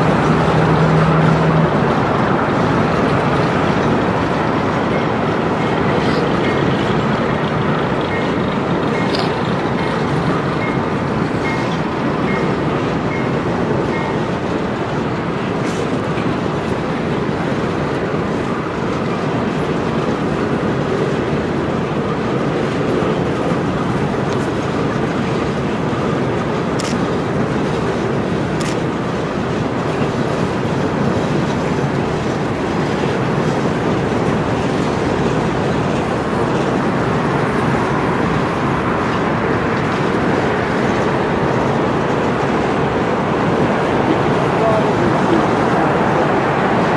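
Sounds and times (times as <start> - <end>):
train wheels rolling on rails: 0.0 - 46.9.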